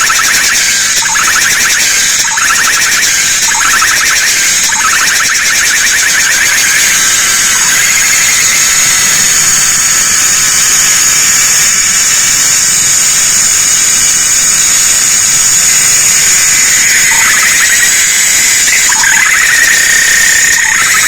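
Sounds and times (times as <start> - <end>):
cicadas buzzing: 0.0 - 21.0
lower pulsing cicada call: 0.0 - 21.0.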